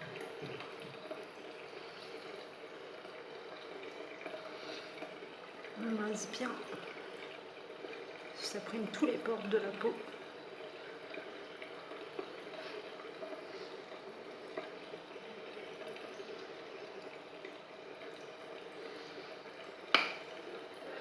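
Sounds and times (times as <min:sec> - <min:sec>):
tap water running: 0:00.0 - 0:21.0.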